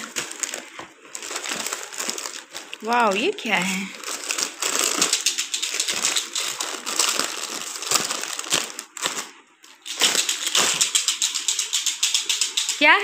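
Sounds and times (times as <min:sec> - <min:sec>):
plastic wrap crinkling and rustling: 0:00.0 - 0:12.9.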